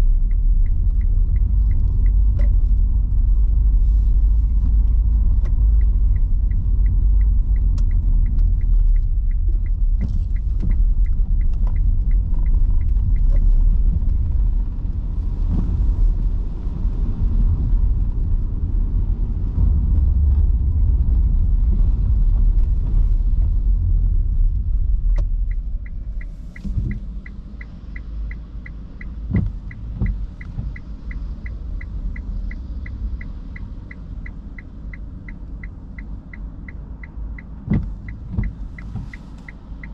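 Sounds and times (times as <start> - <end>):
road and tyre rumble: 0.0 - 39.9
turn signal ticking: 0.0 - 39.9.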